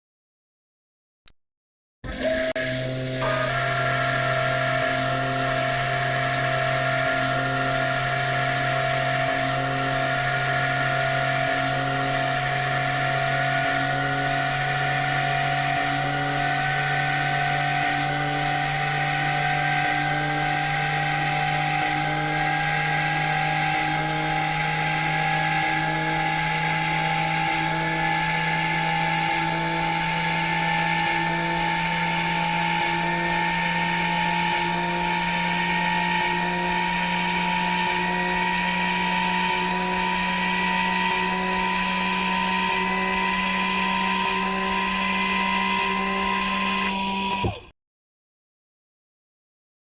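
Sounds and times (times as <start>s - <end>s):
spindle motor whine: 2.0s - 47.7s.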